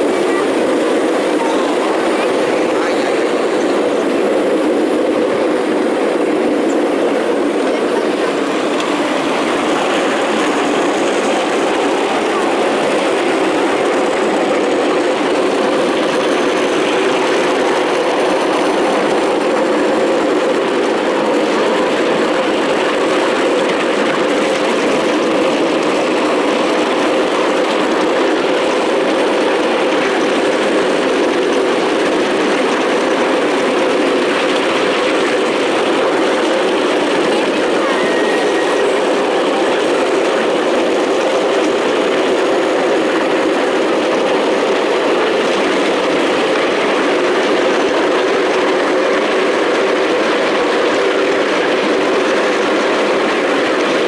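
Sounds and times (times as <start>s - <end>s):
train wheels running on rails: 0.0s - 54.0s.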